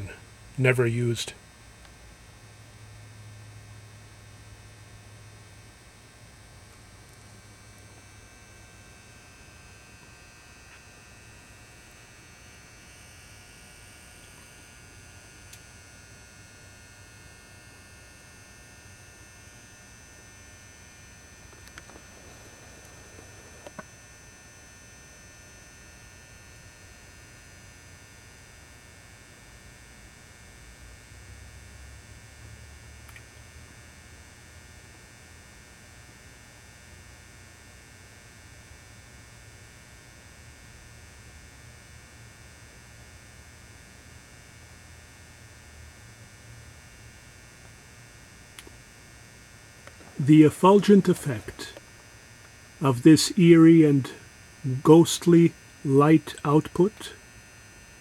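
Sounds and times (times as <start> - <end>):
faint electrical hum: 0.0 - 58.0.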